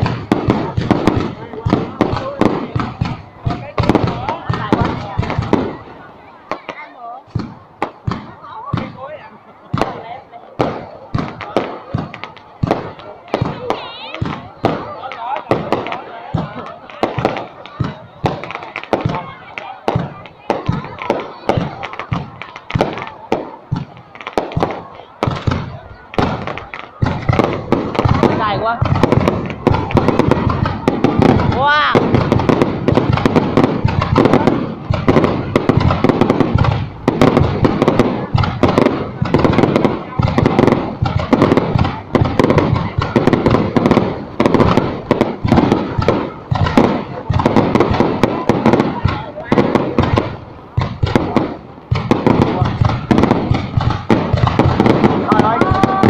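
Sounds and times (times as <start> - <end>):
fireworks exploding: 0.0 - 56.0.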